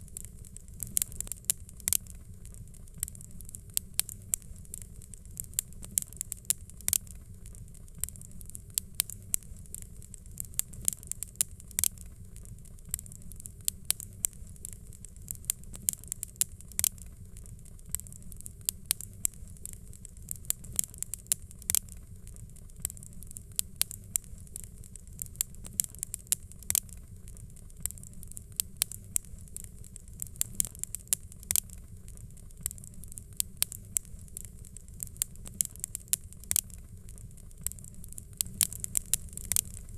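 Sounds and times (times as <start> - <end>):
fire crackling and popping: 0.0 - 39.9
steady low rumble: 0.0 - 39.9.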